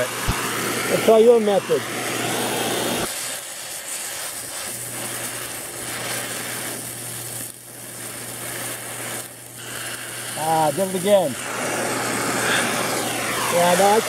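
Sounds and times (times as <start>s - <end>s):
welding torch flame hissing: 0.0s - 14.0s.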